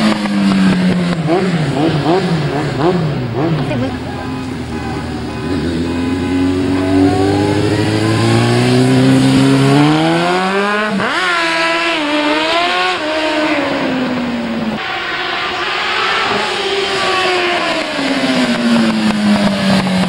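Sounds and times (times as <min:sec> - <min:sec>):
racing motorcycle engine: 0:00.0 - 0:20.0.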